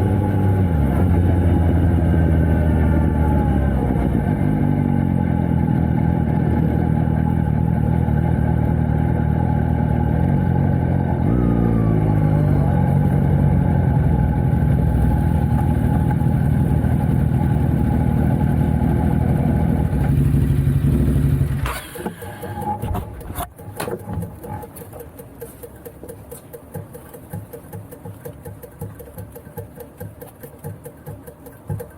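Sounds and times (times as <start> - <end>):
motorcycle engine at speed: 0.0 - 31.9.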